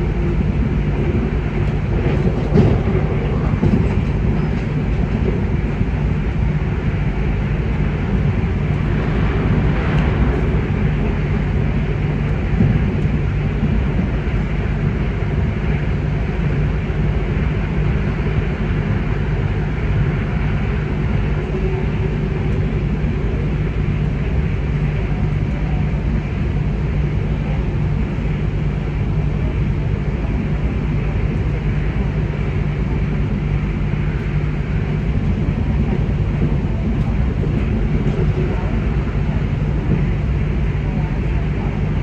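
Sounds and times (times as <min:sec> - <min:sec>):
train rumble inside carriage: 0:00.0 - 0:42.0.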